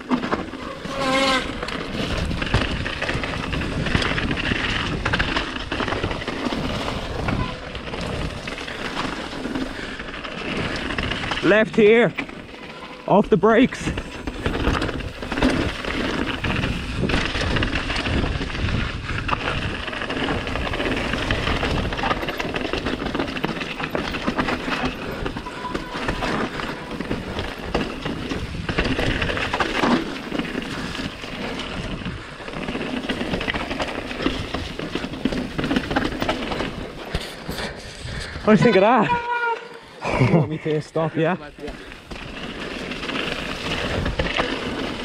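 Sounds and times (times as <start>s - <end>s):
bike rattling and knocking: 0.0s - 45.0s
bike tyres rumbling over gravel: 0.0s - 45.0s.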